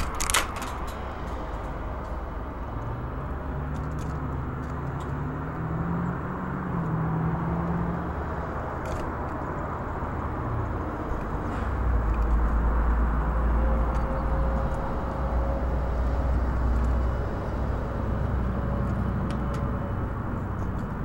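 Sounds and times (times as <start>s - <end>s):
deep engine rumble: 0.0s - 21.0s
vehicle engine humming: 0.0s - 21.0s.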